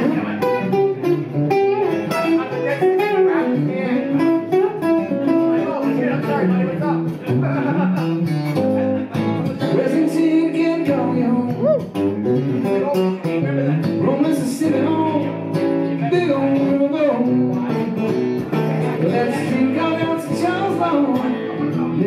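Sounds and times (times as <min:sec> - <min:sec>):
electric guitar lead: 0:00.0 - 0:22.0.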